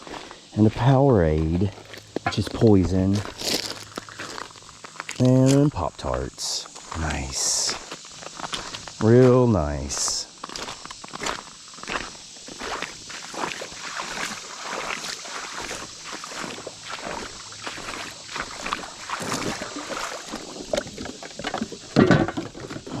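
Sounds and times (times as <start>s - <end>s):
footsteps crunching: 0.0s - 23.0s.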